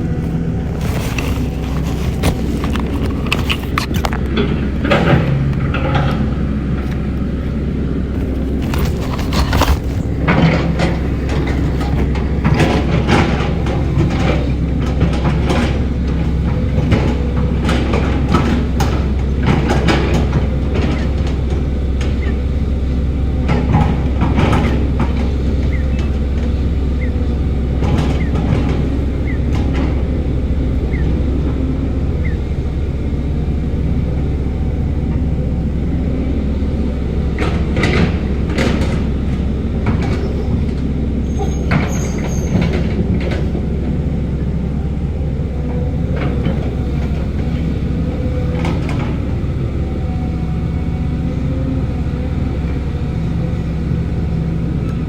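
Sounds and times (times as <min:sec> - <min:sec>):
diesel engine rumble: 0:00.0 - 0:55.0.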